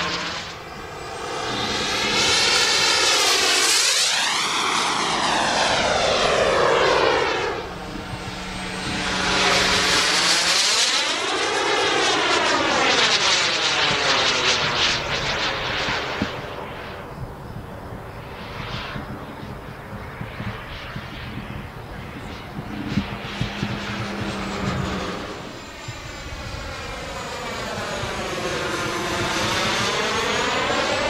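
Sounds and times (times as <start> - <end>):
model jet turbine whine: 0.0 - 31.0.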